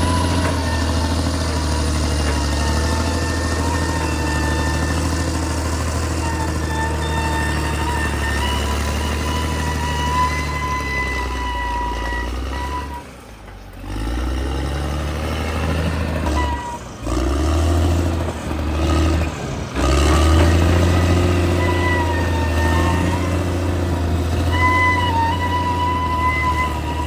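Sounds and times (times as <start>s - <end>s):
high squeal of tracks: 0.0s - 13.5s, 15.6s - 17.5s, 19.9s - 27.0s
bulldozer diesel engine running: 0.0s - 27.0s.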